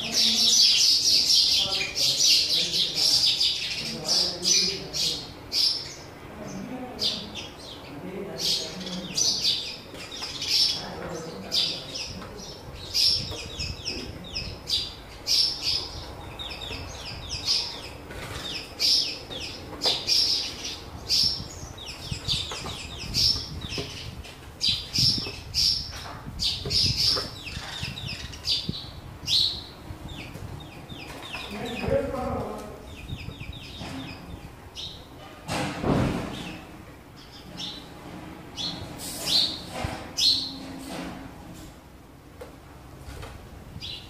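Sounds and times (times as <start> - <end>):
sparrows chirping: 0.0 - 35.4, 36.2 - 41.7, 43.7 - 44.0.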